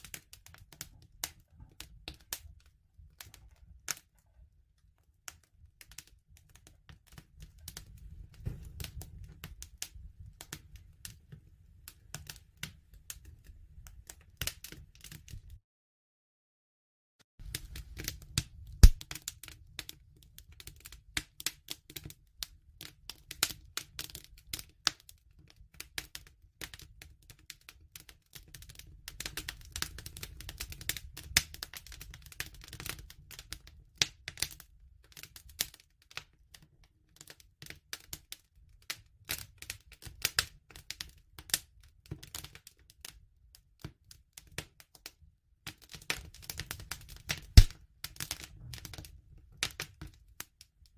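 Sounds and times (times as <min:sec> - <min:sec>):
wood fire crackling: 0:00.0 - 0:15.6, 0:17.4 - 0:50.8.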